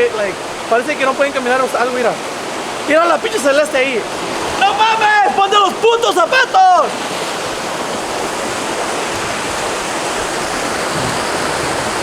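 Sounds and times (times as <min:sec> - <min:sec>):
rushing flowing water: 0:00.0 - 0:12.0.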